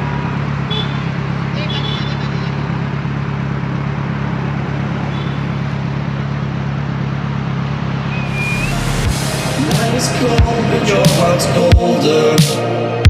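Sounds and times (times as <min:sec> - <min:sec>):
motorcycle engine running: 0:00.0 - 0:12.0
road noise rushing: 0:00.0 - 0:13.0.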